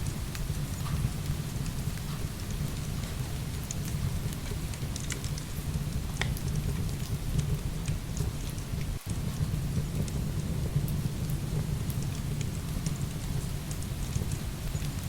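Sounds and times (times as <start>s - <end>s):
firewood crackling: 0.0s - 15.0s
heavy rain pouring: 0.0s - 15.0s.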